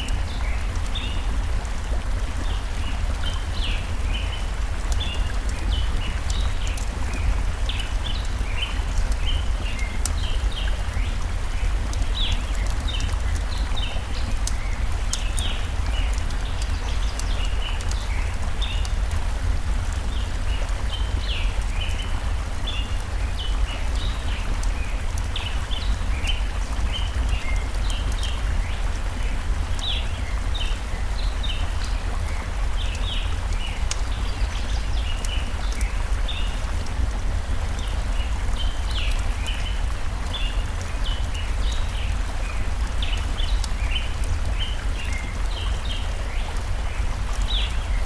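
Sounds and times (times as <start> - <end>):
campfire crackles: 0.0 - 48.0
small birds chirping: 0.0 - 48.0
stream water rushing: 0.0 - 48.0.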